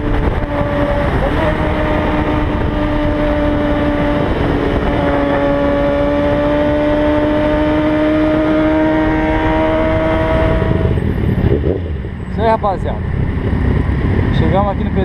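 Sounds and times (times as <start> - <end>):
motorcycle engine accelerating: 0.0 - 15.0
wind noise: 0.0 - 15.0.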